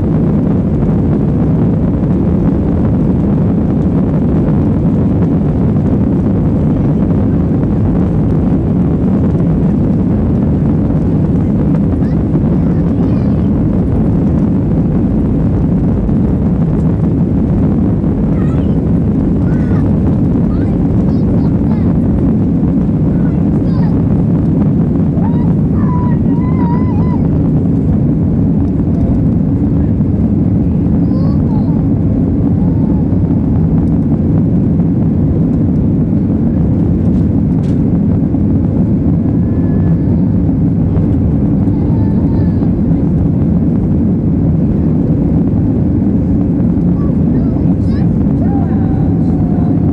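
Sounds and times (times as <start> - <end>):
jet engines at takeoff power: 0.0 - 49.9.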